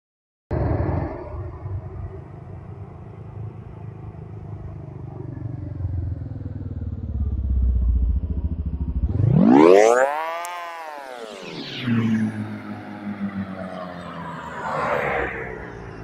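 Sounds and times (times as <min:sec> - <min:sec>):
low traffic rumble: 0:00.5 - 0:16.0
motor scooter passing: 0:00.5 - 0:16.0.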